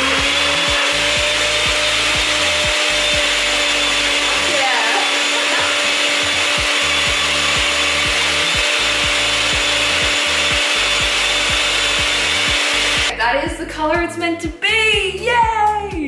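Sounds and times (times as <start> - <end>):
blender motor whine: 0.0 - 13.1.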